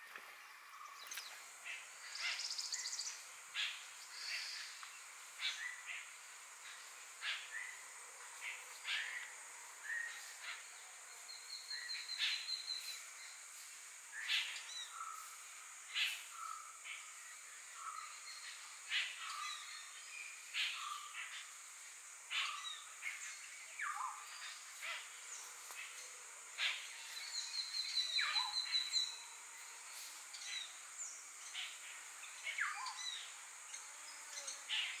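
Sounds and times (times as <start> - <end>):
wild birds calling: 0.0 - 35.0.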